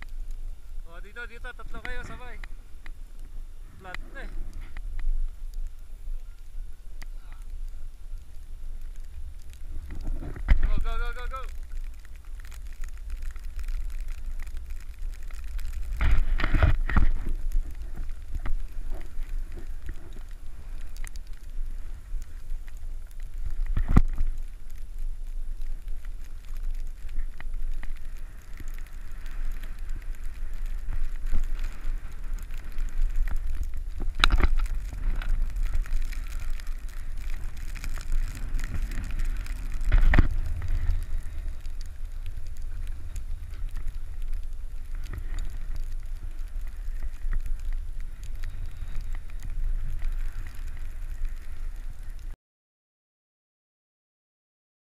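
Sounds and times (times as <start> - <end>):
hiss of sliding over snow: 0.0 - 52.4
wind rumbling on microphone: 0.0 - 52.4.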